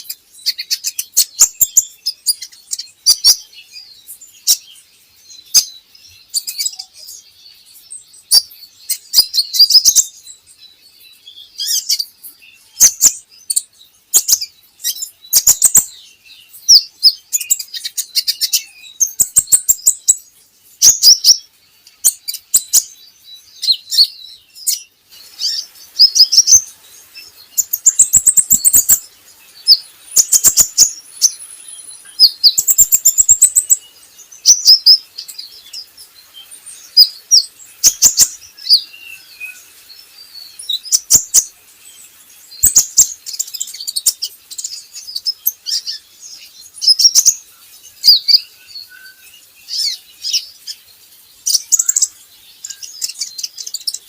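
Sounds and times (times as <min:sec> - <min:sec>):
bird chirping and trilling: 0:00.0 - 0:54.0.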